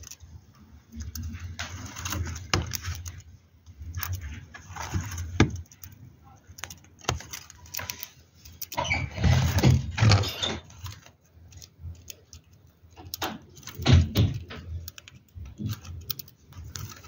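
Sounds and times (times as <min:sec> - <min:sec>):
bird rustling and cracking seeds: 0:00.0 - 0:08.8, 0:10.2 - 0:17.0.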